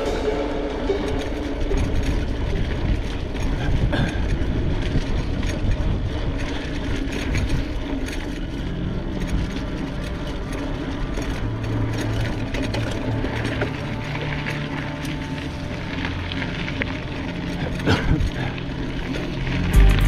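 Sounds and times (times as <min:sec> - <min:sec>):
wind buffeting microphone: 0:00.0 - 0:19.0
tyres rolling over dirt trail: 0:00.0 - 0:20.0.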